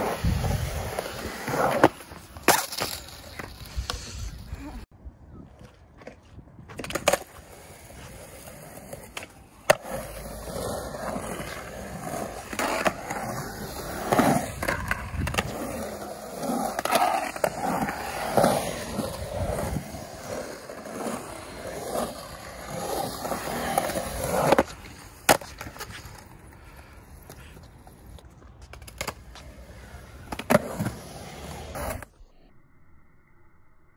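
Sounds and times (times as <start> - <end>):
skateboard wheels rolling on concrete: 0.0 - 32.2.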